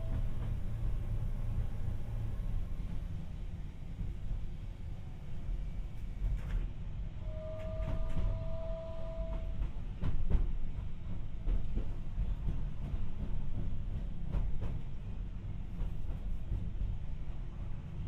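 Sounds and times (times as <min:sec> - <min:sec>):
tram wheels rumbling: 0:00.0 - 0:18.0.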